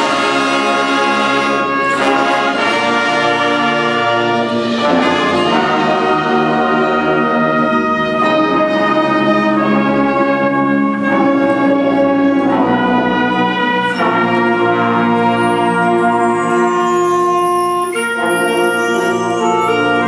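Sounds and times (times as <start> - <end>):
marching band playing chords: 0.0 - 20.0.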